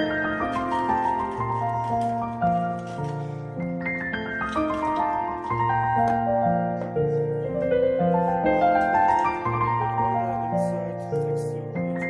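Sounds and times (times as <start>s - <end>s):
background piano music: 0.0s - 12.0s.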